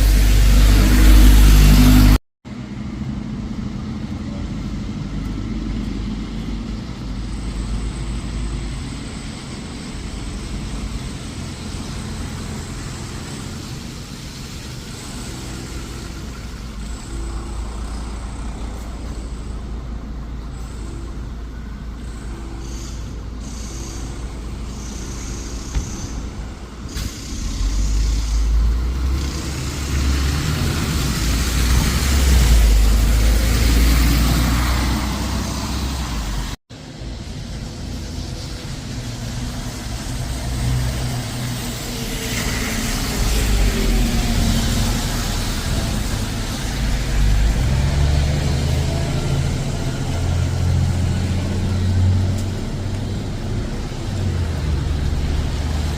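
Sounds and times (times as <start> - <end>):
bus engine rumbling: 0.0 - 55.9
road traffic: 0.0 - 55.9.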